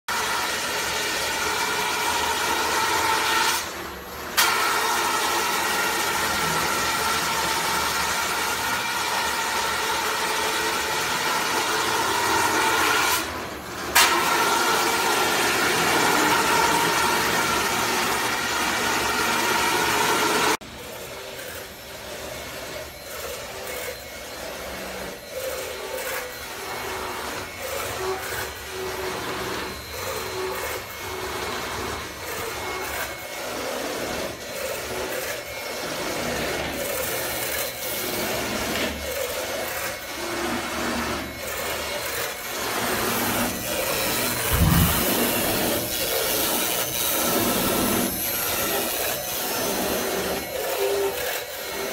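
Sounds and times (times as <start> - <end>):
router spindle high whine: 0.1 - 51.9
uneven machine noise: 0.2 - 51.9.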